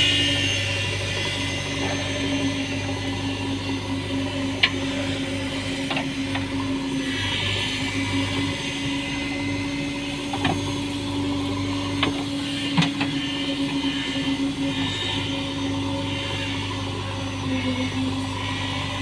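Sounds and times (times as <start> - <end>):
backhoe engine running: 0.0 - 19.0.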